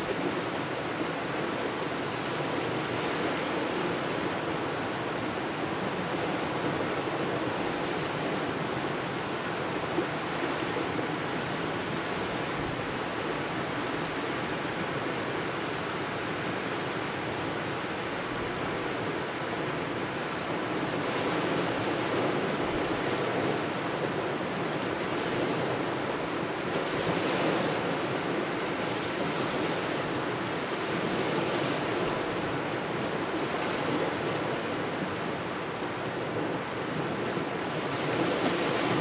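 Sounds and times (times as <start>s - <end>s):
waves washing onto shore: 0.0s - 39.0s.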